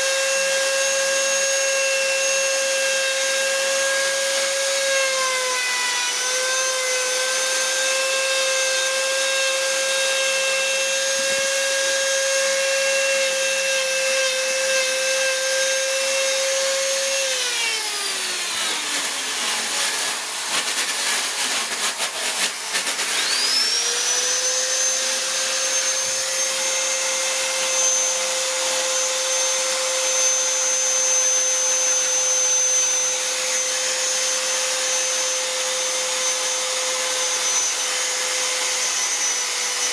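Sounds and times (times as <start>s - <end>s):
die grinder whine: 0.0s - 39.9s.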